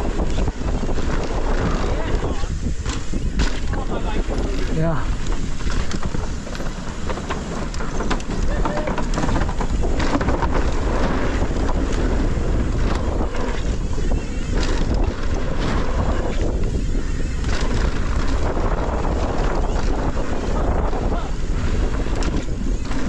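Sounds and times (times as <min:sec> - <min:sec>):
bike knocks and rattles: 0:00.0 - 0:23.0
bike tyres rolling on dirt: 0:00.0 - 0:23.0
wind buffeting microphone: 0:00.0 - 0:23.0.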